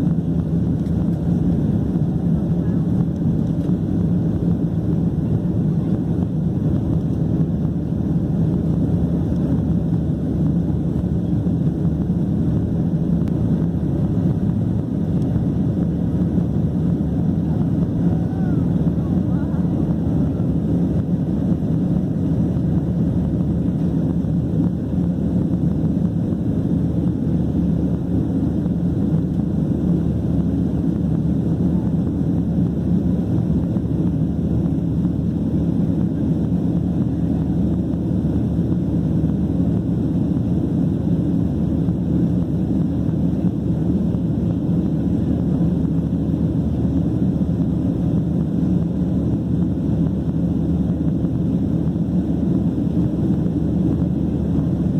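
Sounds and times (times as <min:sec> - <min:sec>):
jet engines roaring in cabin: 0:00.0 - 0:54.9.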